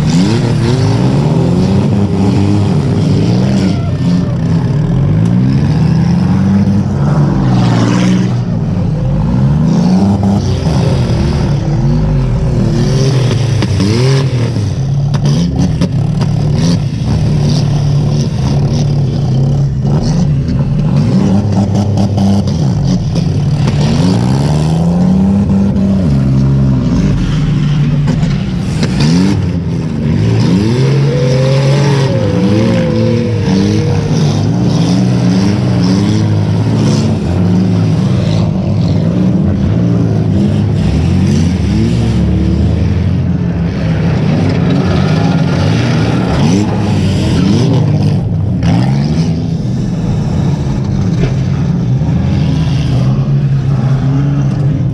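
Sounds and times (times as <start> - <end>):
car engines revving hard: 0.0 - 54.9.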